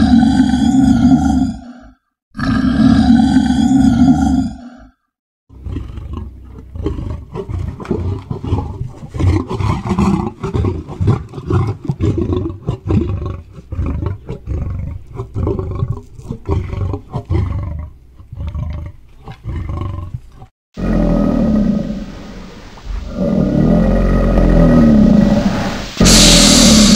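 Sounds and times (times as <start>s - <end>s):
big cat growling and roaring: 0.0s - 26.9s.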